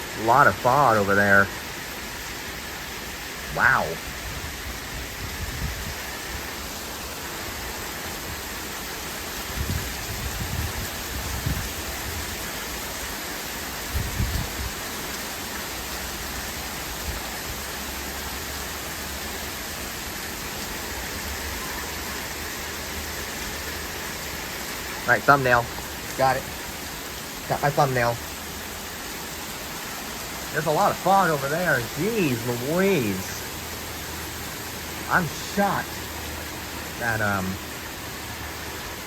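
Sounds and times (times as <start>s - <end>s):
steady downpour of rain: 0.0s - 39.0s.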